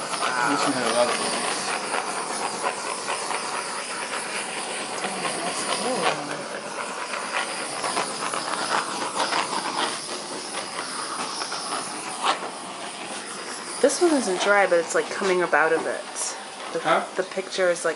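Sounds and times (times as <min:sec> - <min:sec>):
gas torch hissing: 0:00.0 - 0:17.9.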